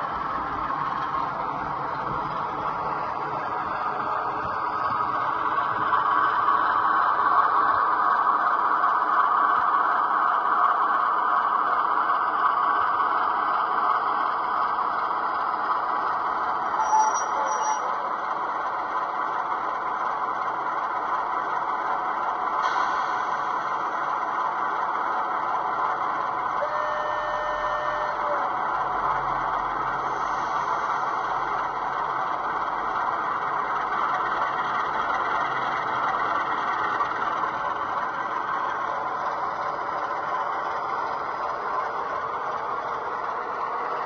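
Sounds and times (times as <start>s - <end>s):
model locomotive running on track: 0.0s - 44.0s.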